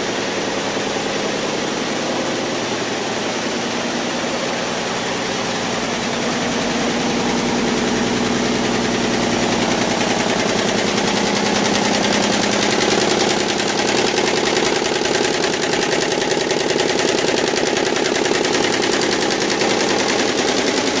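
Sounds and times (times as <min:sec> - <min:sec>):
embroidery machine hum: 0:00.0 - 0:21.0.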